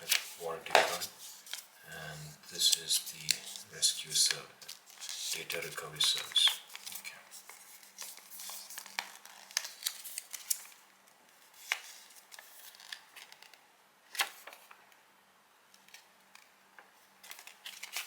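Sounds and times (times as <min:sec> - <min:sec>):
paper and cardboard rustling: 0:00.0 - 0:01.8, 0:02.4 - 0:10.8, 0:11.4 - 0:14.8, 0:17.0 - 0:18.0.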